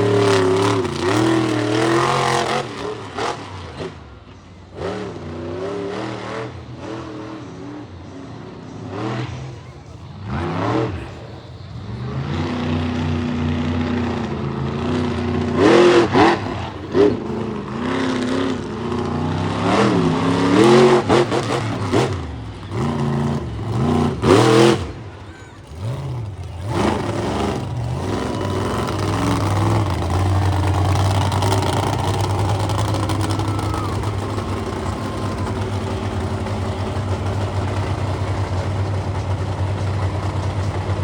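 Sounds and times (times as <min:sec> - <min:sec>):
monster truck engine revving: 0:00.0 - 0:41.0.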